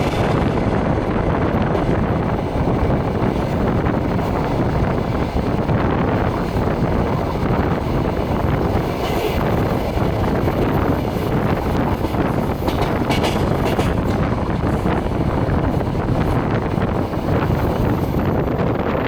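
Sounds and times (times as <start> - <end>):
train wheels rumbling on rails: 0.0 - 19.0
wind on microphone: 0.0 - 19.0.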